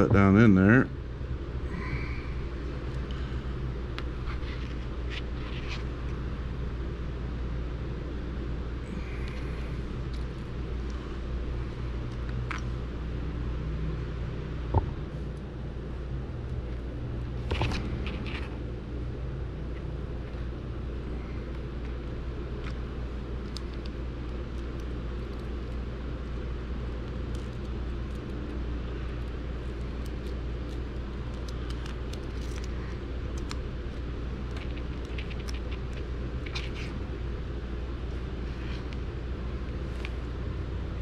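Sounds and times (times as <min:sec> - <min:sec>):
low hum: 0:00.0 - 0:41.0.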